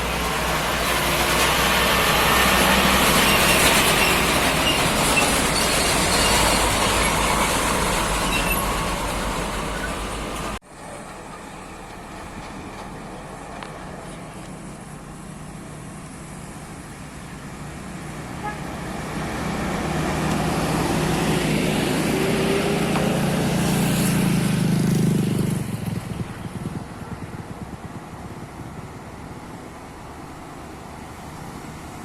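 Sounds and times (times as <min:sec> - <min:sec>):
truck diesel engine labouring: 0:00.0 - 0:32.0.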